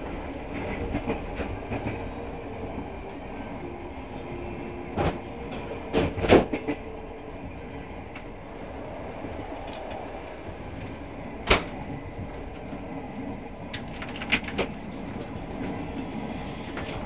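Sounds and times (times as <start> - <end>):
train carriage rumble: 0.0 - 17.0
train clattering: 0.0 - 17.0.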